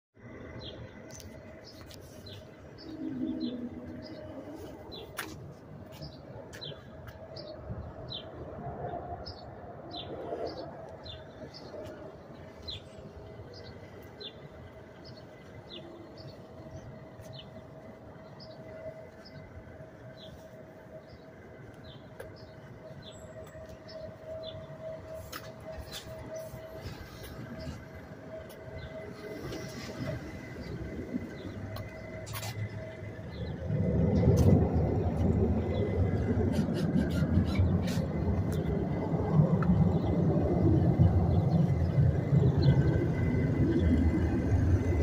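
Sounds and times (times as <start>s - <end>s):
background hum and drone: 0.2s - 45.0s.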